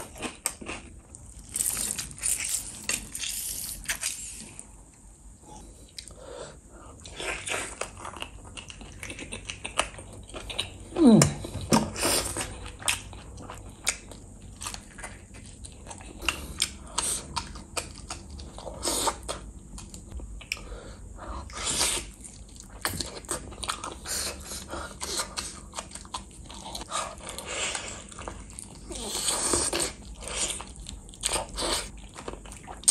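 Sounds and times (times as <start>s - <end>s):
close chewing and biting: 0.0s - 4.5s, 7.0s - 20.7s, 21.4s - 32.9s.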